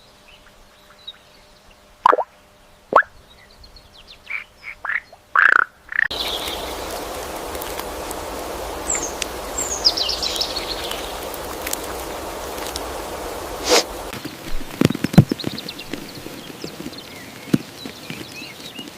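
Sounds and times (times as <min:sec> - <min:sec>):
steady outdoor hiss: 0:00.0 - 0:18.9.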